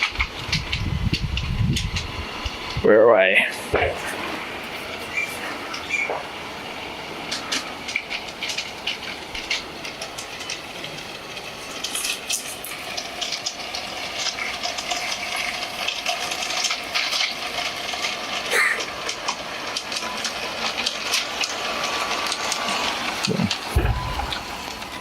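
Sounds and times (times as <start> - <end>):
model train wheels clicking on rails: 0.0 - 2.8, 7.0 - 25.0
faint motor whine: 0.0 - 25.0.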